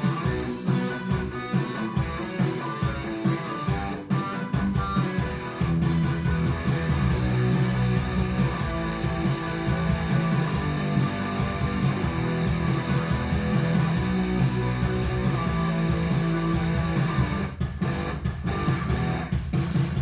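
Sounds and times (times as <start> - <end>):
guitar music with bass: 0.0 - 19.4.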